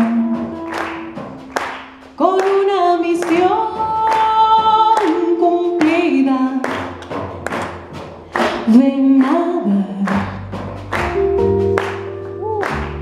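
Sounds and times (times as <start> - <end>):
hand claps keeping the beat: 0.0 - 13.0
live band music: 0.0 - 13.0.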